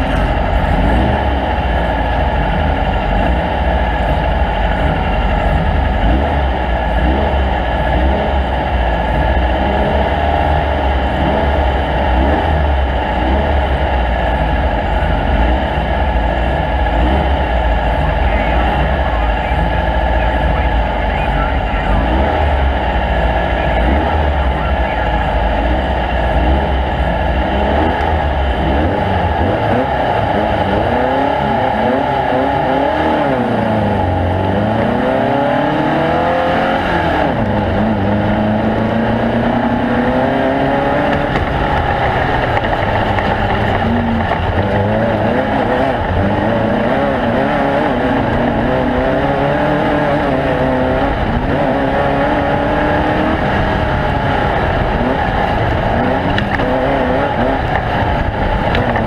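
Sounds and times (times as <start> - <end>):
race vehicle engines revving: 0.0 - 59.0.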